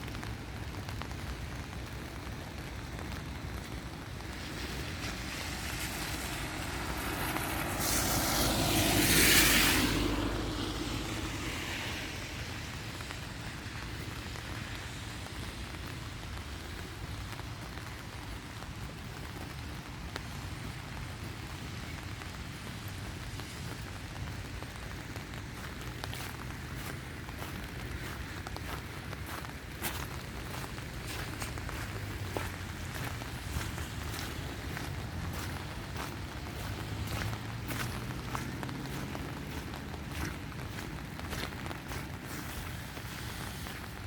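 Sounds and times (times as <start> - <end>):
steady rain: 0.0 - 44.0
tyres hissing on wet road: 0.0 - 44.0.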